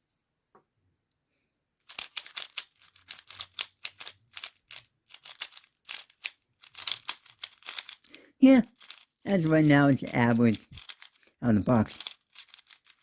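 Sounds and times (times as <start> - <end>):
puzzle cube layers clacking: 1.9 - 13.0.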